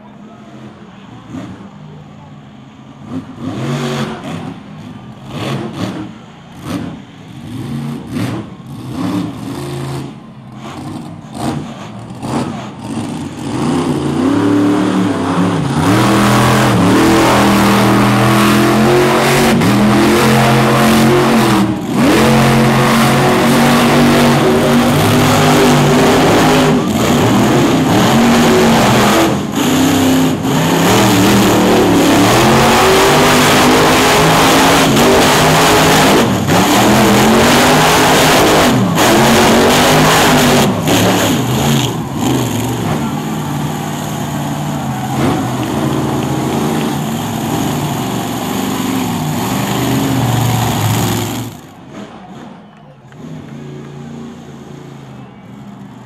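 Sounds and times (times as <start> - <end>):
truck engine revving: 0.6 - 55.1.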